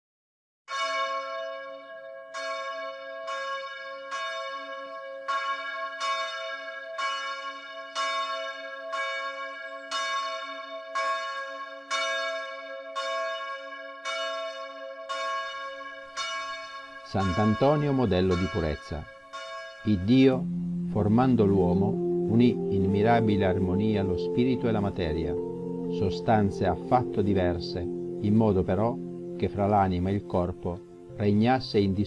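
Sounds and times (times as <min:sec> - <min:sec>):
church bell tolling: 0:00.7 - 0:32.0.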